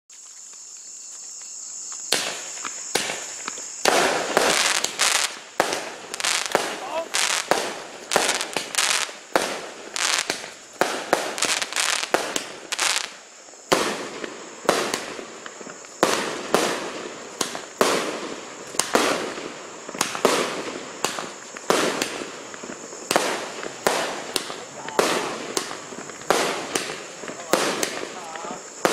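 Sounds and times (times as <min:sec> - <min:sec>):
fireworks shots bursting: 0:02.1 - 0:28.9.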